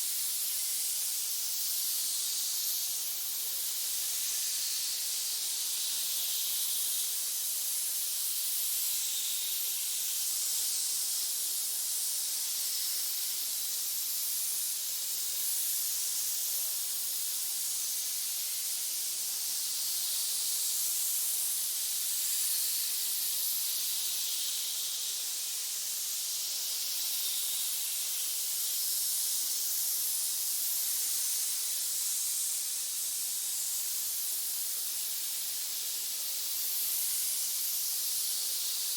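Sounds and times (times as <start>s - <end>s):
snake hissing: 0.0s - 38.9s.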